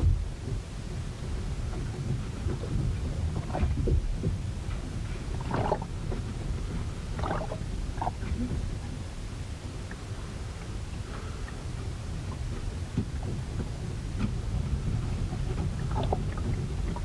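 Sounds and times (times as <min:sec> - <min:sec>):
wooden boat creaks and knocks: 0:00.0 - 0:09.1, 0:11.8 - 0:17.0
low rumble of wind and water: 0:00.0 - 0:17.0.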